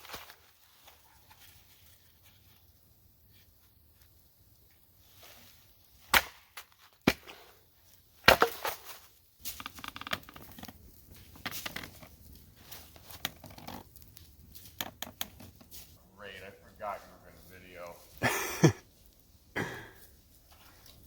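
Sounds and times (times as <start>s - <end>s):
rustling and crinkling handling: 0.0s - 6.0s, 8.7s - 21.0s.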